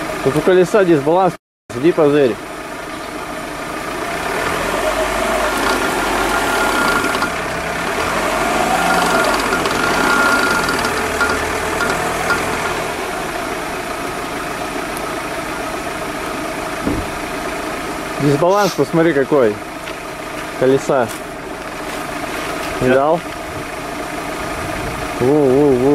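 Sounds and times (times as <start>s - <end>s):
car engine running: 0.0s - 25.9s.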